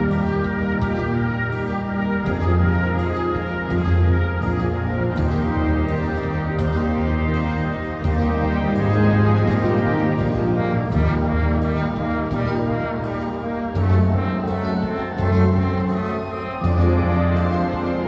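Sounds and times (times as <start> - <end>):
marching band brass: 0.0 - 18.0
percussion beat: 0.0 - 18.0.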